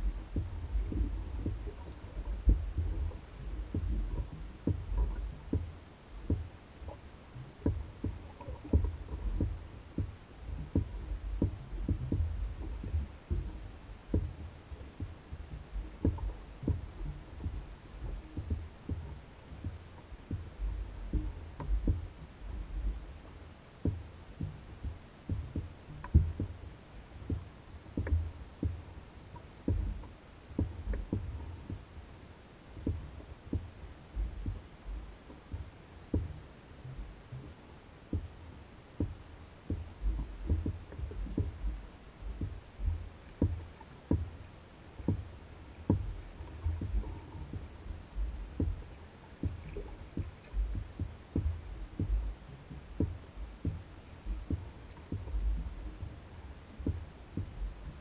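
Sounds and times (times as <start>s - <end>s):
waves slapping against canoe hull: 0.0s - 58.0s.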